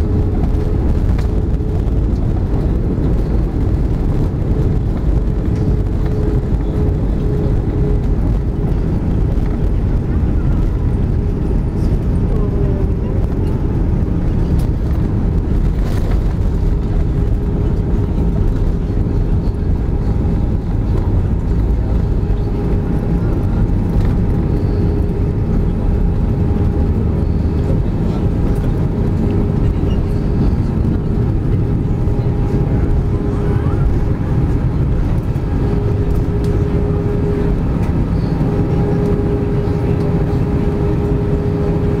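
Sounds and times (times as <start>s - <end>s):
aircraft engine hum: 0.0s - 42.0s
wheels rumbling on runway: 0.0s - 42.0s.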